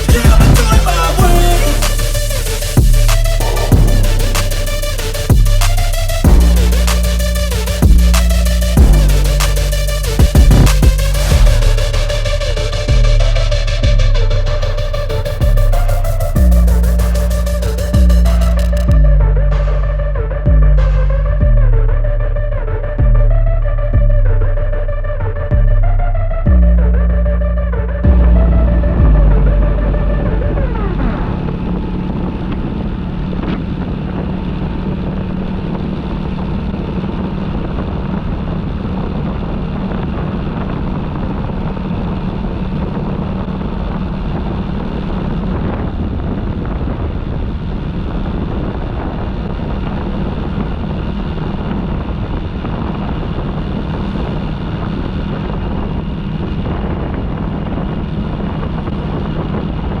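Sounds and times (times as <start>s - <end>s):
motorcycle cruising: 0.0s - 60.0s
wind noise on microphone: 0.0s - 60.0s.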